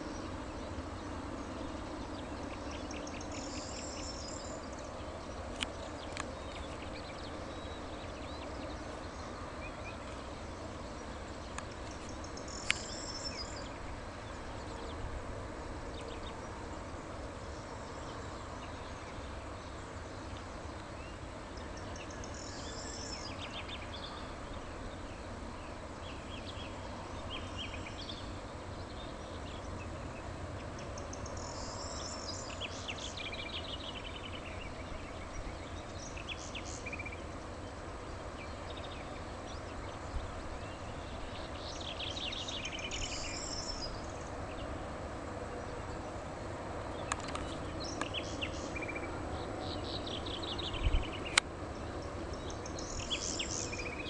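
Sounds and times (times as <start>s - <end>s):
small birds chirping: 0.0s - 15.0s, 17.4s - 44.8s, 46.9s - 54.0s
steady hiss and rumble: 0.0s - 54.0s.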